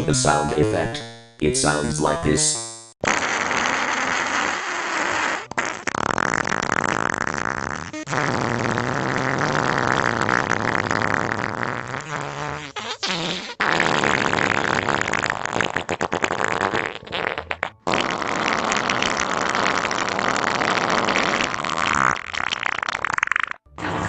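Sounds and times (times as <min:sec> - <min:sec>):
sputtering fart noises: 0:03.0 - 0:24.0.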